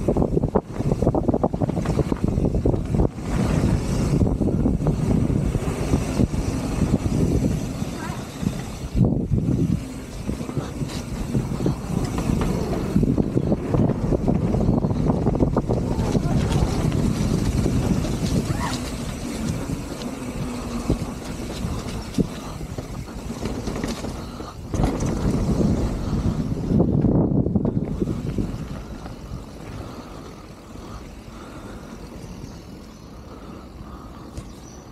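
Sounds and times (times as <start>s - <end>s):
bike rattling over bumps: 0.0s - 34.9s
bike tyres rumbling on dirt: 0.0s - 34.9s
wind buffeting microphone: 0.0s - 34.9s.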